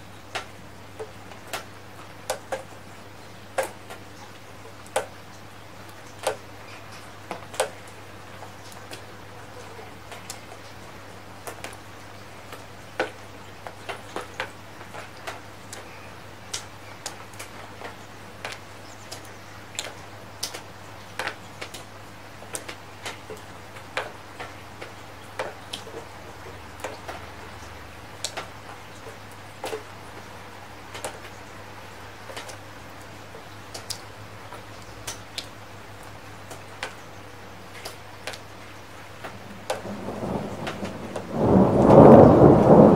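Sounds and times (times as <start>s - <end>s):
rain hiss: 0.0s - 42.9s
raindrops tapping hard surfaces: 0.1s - 42.9s.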